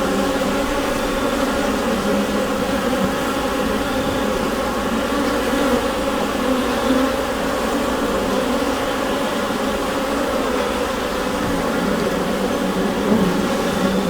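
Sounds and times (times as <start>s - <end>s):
honeybees buzzing in a hive: 0.0s - 14.0s.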